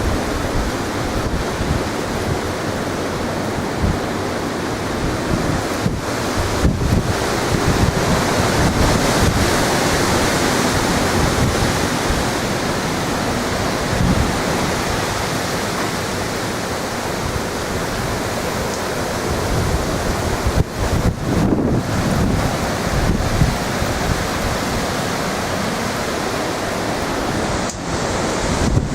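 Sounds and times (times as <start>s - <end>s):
strong wind blowing: 0.0s - 28.9s
wind buffeting microphone: 0.0s - 28.9s.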